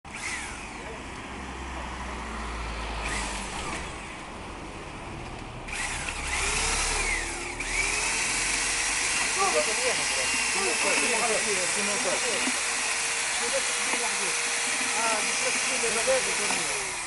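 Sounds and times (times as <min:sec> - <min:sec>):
electric drill mixer whining: 0:00.1 - 0:04.3, 0:05.6 - 0:17.0.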